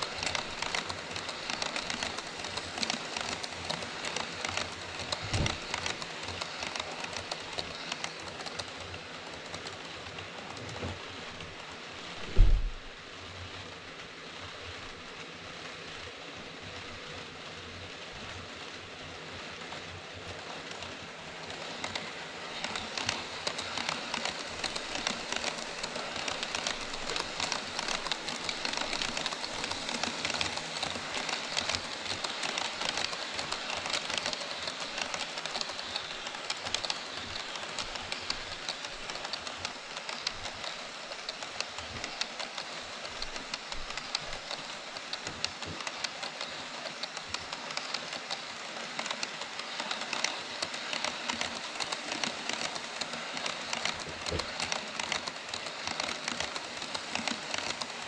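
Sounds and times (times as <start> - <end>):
rapid clicking over rail joints: 0.0 - 12.5, 18.3 - 58.0
model train wheels and motors hissing: 0.0 - 58.0.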